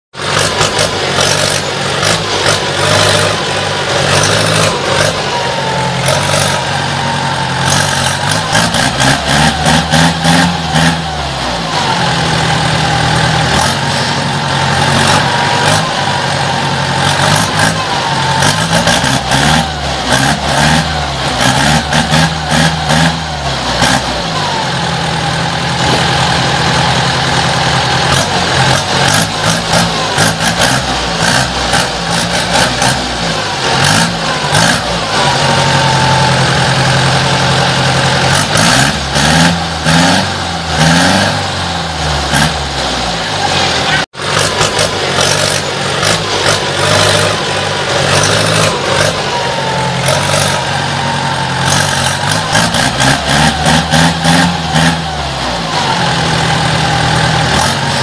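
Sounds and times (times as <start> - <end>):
tractor engine revving and idling: 0.0 - 58.0.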